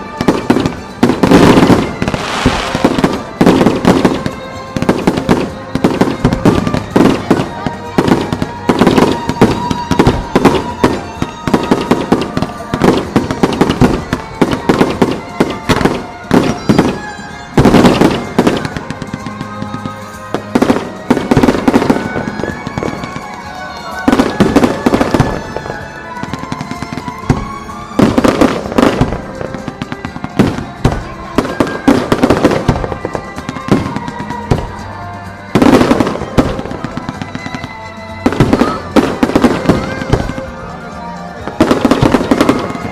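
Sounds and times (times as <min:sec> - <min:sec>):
fireworks bursting: 0:00.0 - 0:42.9
fireworks crackling: 0:00.0 - 0:42.9
music playing: 0:00.0 - 0:42.9.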